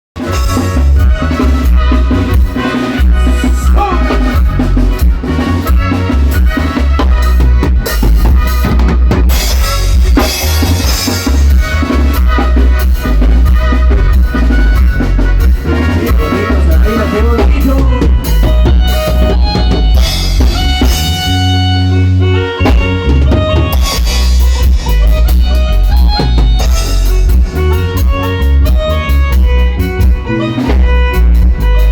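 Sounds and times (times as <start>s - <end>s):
band music with drum kit: 0.2s - 31.9s.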